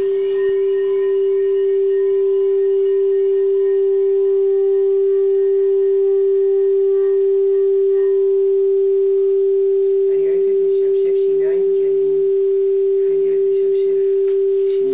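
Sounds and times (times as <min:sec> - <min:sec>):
steady pure tone: 0:00.0 - 0:14.9.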